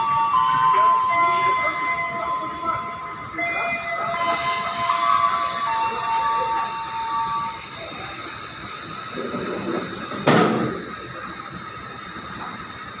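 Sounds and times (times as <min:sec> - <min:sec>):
train running with hiss: 0:00.0 - 0:13.0.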